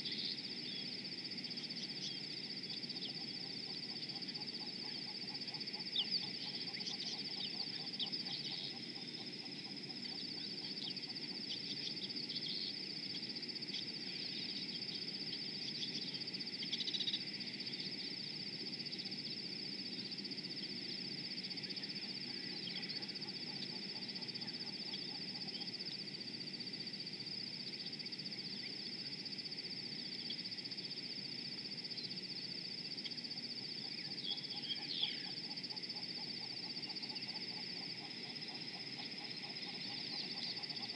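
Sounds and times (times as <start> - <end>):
frogs calling: 0.0 - 40.9.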